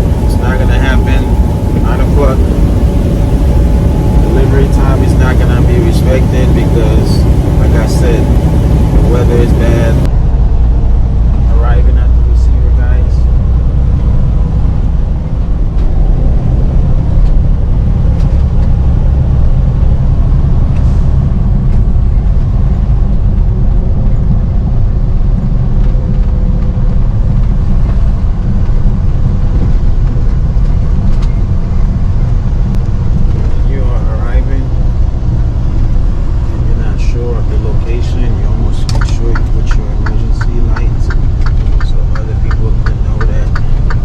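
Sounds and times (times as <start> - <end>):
road noise: 0.0 - 44.0
truck engine rumble: 0.0 - 44.0.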